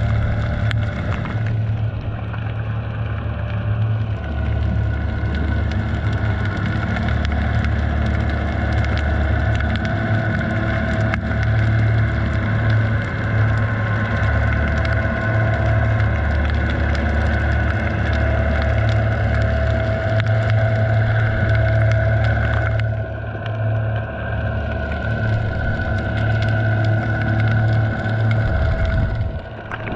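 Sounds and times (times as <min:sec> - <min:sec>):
boat motors humming underwater: 0:00.0 - 0:29.9.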